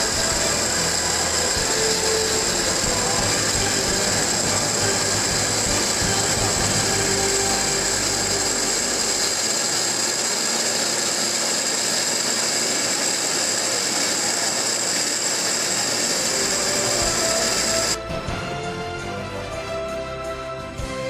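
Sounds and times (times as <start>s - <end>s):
low machine hum: 0.0s - 18.0s
stone grinding with high whine: 0.0s - 18.0s.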